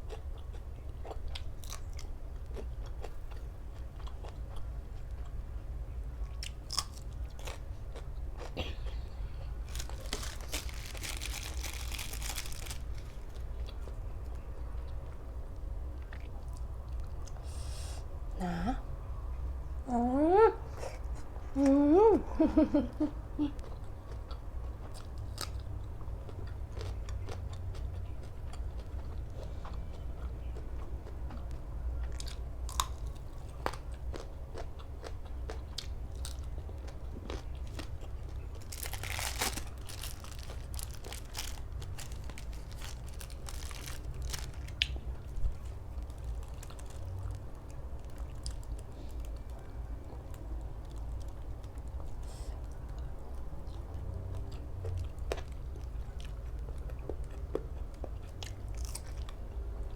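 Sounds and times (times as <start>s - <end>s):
chewing and crunching food: 0.0s - 17.6s, 22.4s - 59.9s
faint low hum: 0.0s - 59.9s.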